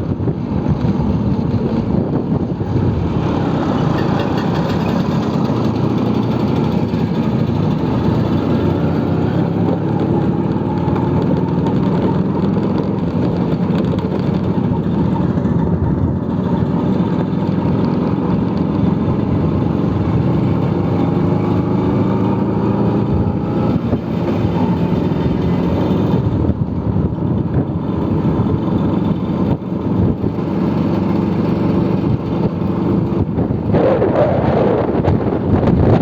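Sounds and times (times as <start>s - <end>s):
scooter engine running: 0.0s - 36.0s.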